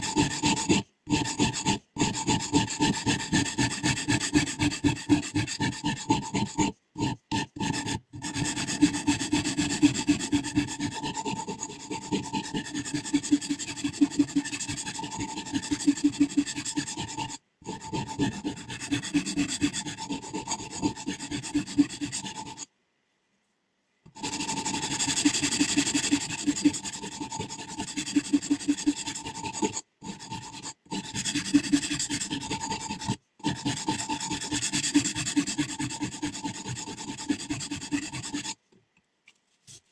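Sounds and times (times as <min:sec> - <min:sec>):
sharpening stone on blade: 0:00.0 - 0:22.6, 0:24.2 - 0:38.6.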